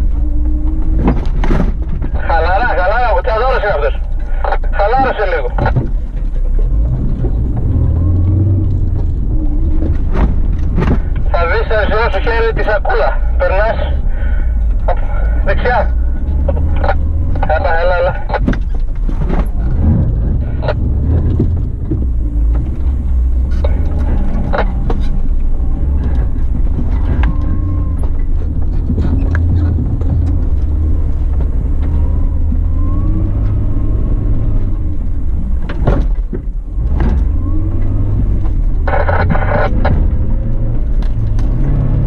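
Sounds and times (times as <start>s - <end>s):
vehicle knocks and clatters: 0.0s - 2.3s, 5.6s - 11.3s, 15.8s - 42.0s
vehicle engine rumbling: 0.0s - 42.0s.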